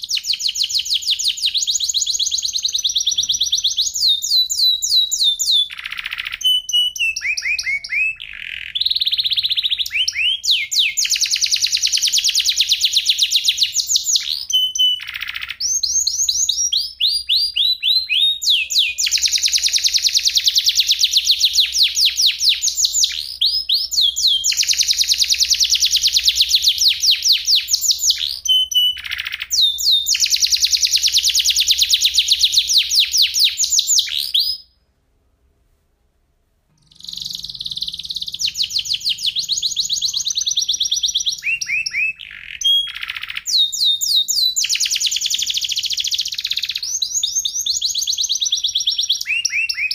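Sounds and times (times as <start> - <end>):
canary singing rapid trills: 0.0 - 34.7, 36.8 - 49.9.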